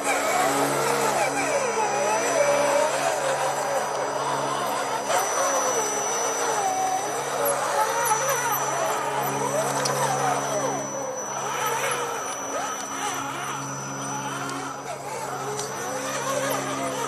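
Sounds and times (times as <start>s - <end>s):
electric motor and gear whine: 0.0s - 17.0s.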